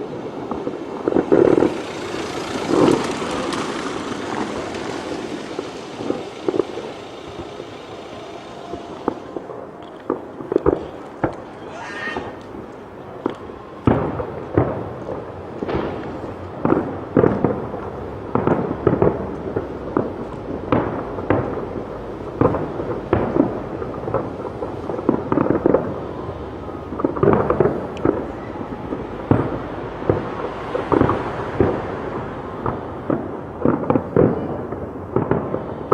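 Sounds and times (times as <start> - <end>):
fireworks bangs with echo: 0.0 - 35.9.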